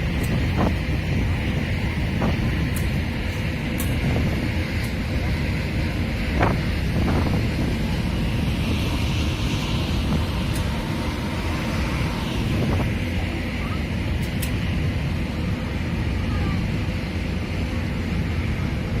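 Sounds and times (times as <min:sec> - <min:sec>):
constant low rumble: 0:00.0 - 0:19.0
wind buffeting the microphone: 0:00.0 - 0:19.0.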